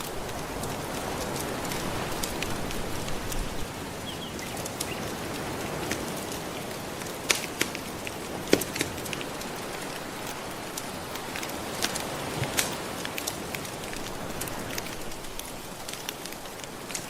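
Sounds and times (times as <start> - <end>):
gentle ocean waves: 0.0 - 17.0
wood fire crackling: 0.0 - 17.0.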